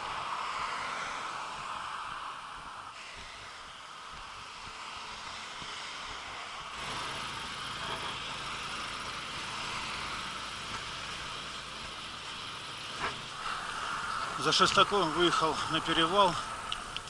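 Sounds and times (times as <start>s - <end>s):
road traffic hiss: 0.0s - 17.0s
vehicle engine rumble passing: 0.0s - 17.0s.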